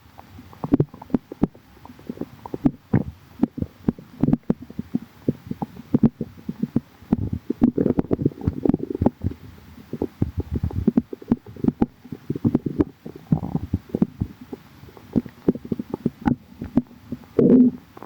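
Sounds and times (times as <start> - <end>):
stomach gurgling: 0.0 - 18.0.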